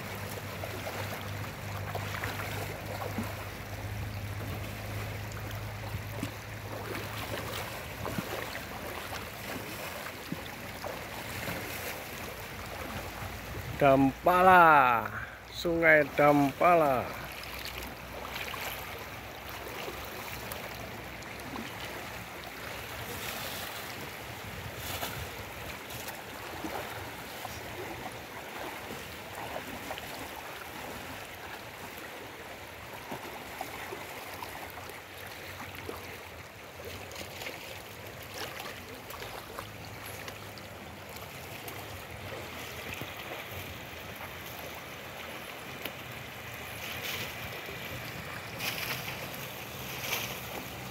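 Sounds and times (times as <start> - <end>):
river rushing over stones: 0.0 - 50.9
short water splashes: 0.0 - 50.9.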